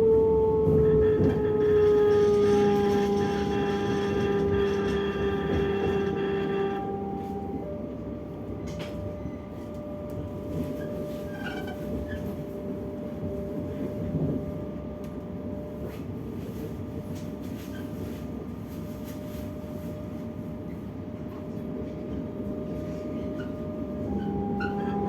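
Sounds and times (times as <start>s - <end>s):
train rolling rumble: 0.0s - 25.0s.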